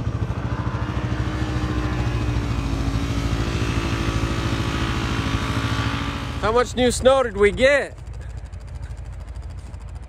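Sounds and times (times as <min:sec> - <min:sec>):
vehicle engine pulsing in snow: 0:00.0 - 0:10.0.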